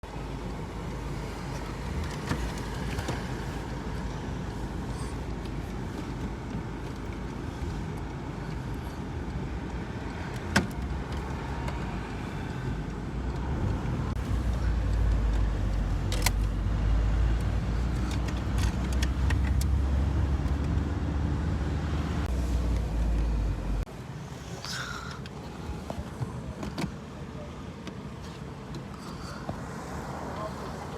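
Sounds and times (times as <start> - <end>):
low rumble inside car: 0.1 - 30.9.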